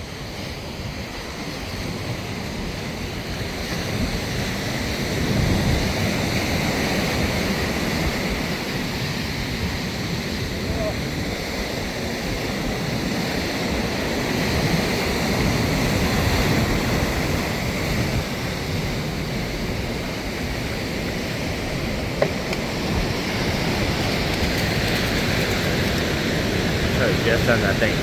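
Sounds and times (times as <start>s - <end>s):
ocean surf washing up beach: 0.0s - 28.0s
wind rumbling on microphone: 0.0s - 28.0s.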